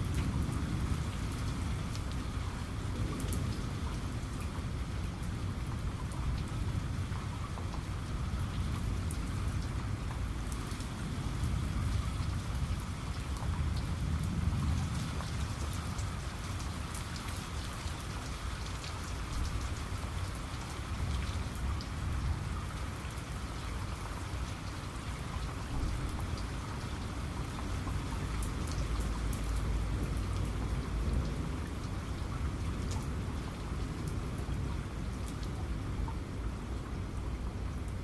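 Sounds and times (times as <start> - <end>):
raindrops ticking on a surface: 0.0 - 38.0
steady rain: 0.0 - 38.0.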